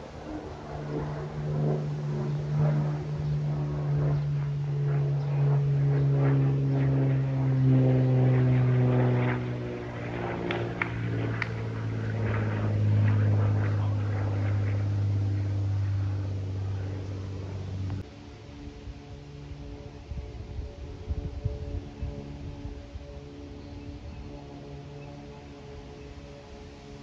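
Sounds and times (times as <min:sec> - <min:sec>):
propeller airplane flying overhead: 0:00.0 - 0:27.0.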